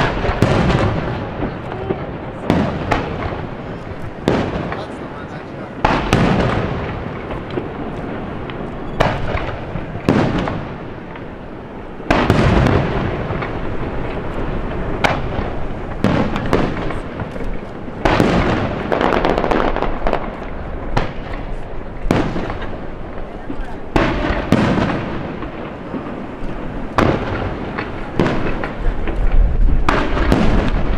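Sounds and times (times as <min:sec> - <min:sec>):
crackling firework pops: 0:00.0 - 0:11.4, 0:12.0 - 0:30.9
fireworks booming: 0:00.0 - 0:30.9.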